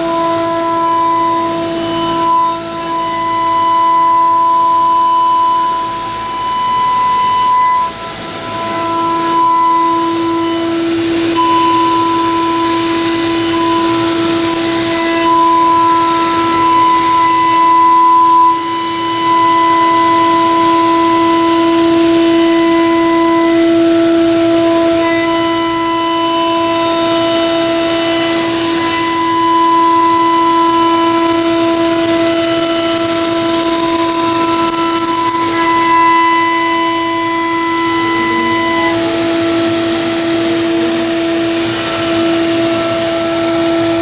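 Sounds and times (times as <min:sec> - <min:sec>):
milling spindle whine: 0:00.0 - 0:44.0.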